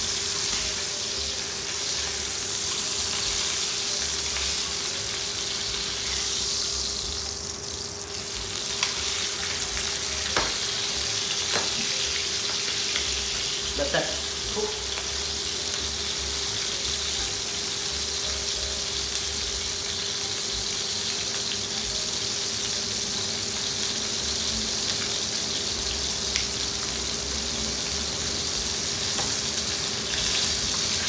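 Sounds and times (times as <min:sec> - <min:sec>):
meat sizzling in a frying pan: 0:00.0 - 0:31.0.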